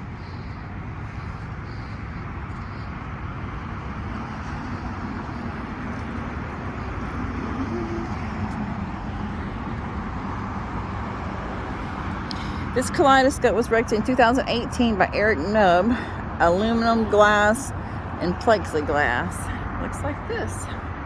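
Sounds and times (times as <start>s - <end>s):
road traffic rumble and hiss: 0.0s - 21.0s.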